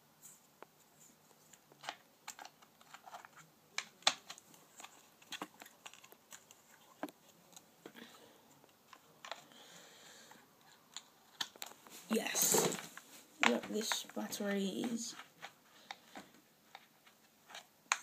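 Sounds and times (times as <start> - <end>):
rustling: 0.2 - 9.5, 10.6 - 18.0.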